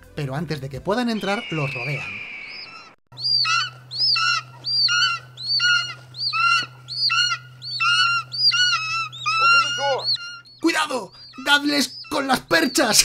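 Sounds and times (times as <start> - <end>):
birds of prey screeching: 1.1 - 13.0
steady low hum: 1.1 - 13.0.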